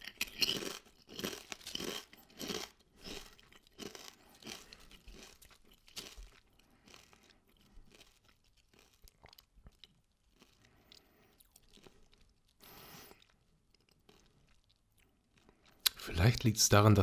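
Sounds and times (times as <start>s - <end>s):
potato chips crunching: 0.0s - 16.0s.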